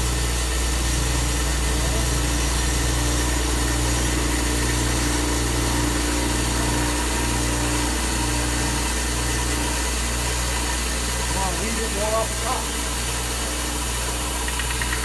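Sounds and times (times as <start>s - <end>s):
electric sander humming: 0.0s - 15.0s.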